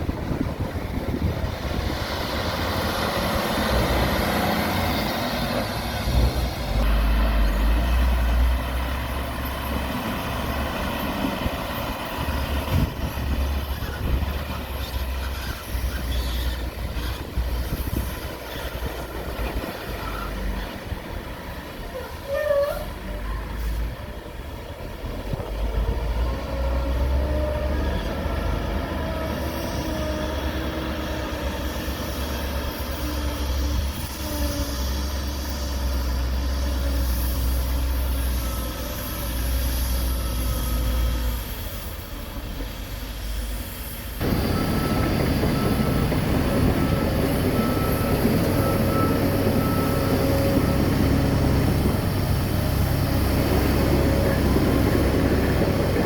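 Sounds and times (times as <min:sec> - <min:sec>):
diesel machinery engines running: 0:00.0 - 0:56.0.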